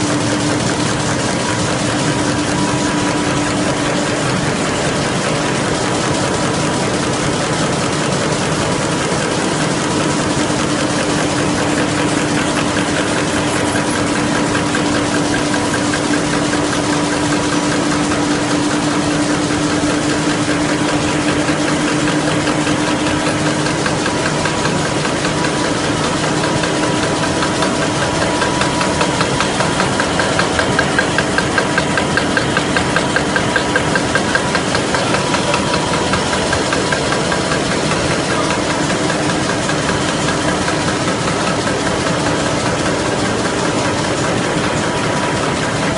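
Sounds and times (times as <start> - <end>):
loud regular mechanical beat: 0.0 - 45.9
machine clattering fast: 0.0 - 45.9.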